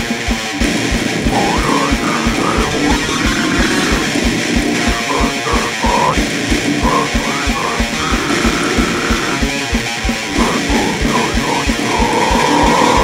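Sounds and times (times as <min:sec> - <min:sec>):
bass guitar: 0:00.0 - 0:13.0
distorted electric guitar: 0:00.0 - 0:13.0
fast kick drum: 0:00.0 - 0:13.0.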